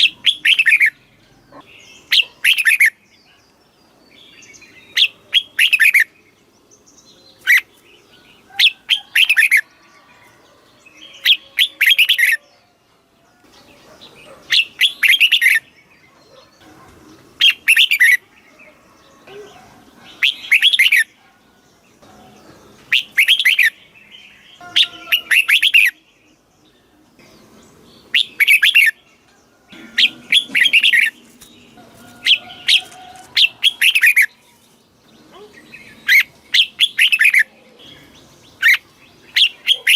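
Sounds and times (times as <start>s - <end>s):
bird singing chirpy phrases: 0.0s - 39.9s.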